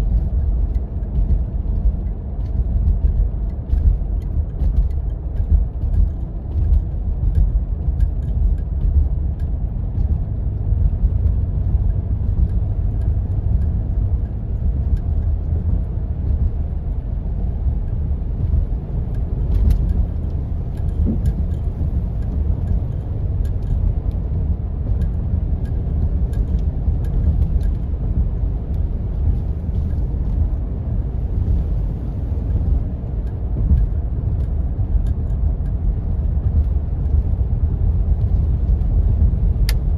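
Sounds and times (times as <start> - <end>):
engine and tyres rumbling: 0.0 - 39.9
light clicks and ticks: 0.0 - 39.9.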